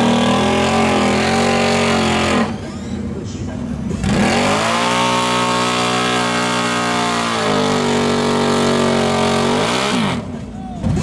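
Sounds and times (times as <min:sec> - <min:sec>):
atv engine at high revs: 0:00.0 - 0:02.7, 0:04.0 - 0:10.4.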